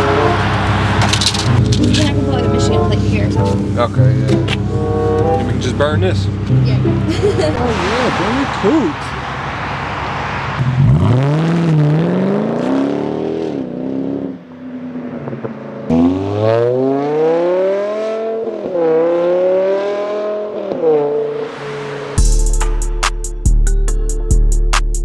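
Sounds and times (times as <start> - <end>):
car engine accelerating hard: 0.0 - 22.3.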